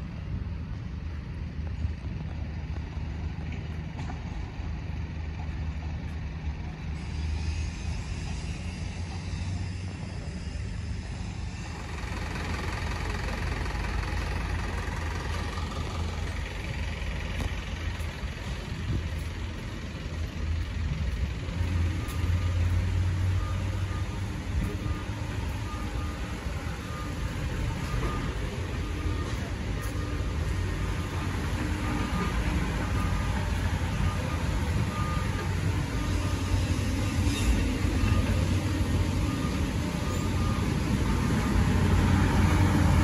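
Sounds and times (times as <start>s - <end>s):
tyre and road noise: 0.0s - 43.0s
vehicle engines rumbling: 0.0s - 43.0s.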